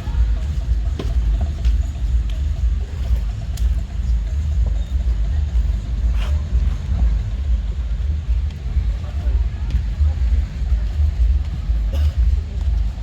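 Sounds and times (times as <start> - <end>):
faint voices: 0.0 - 13.0
low rumble: 0.0 - 13.0.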